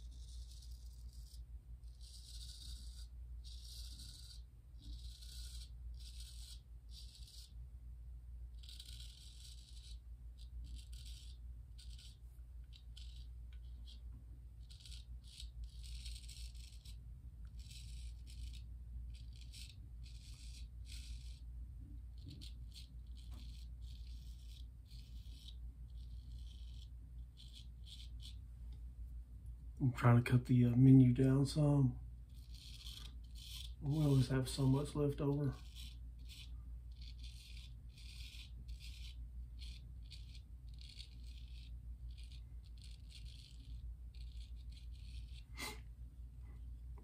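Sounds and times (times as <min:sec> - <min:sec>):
razor scraping stubble: 0:00.0 - 0:07.6, 0:08.5 - 0:28.4, 0:30.0 - 0:45.9
low steady hum: 0:00.0 - 0:47.0.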